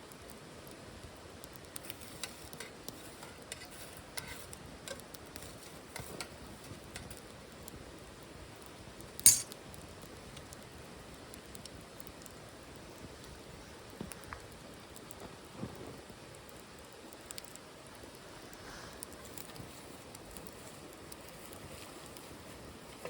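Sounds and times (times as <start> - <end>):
wood crackling in stove: 0.0 - 23.0.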